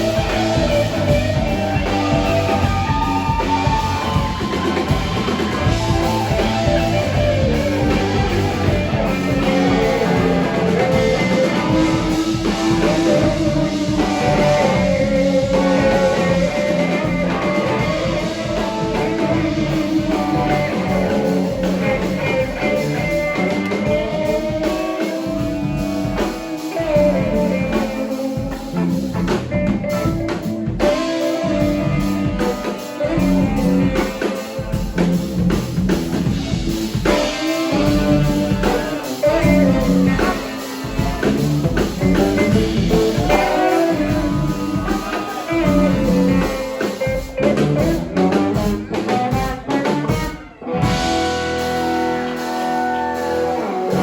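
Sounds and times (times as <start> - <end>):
bending guitar notes: 0.0 - 54.0
blues-rock band playing: 0.0 - 54.0.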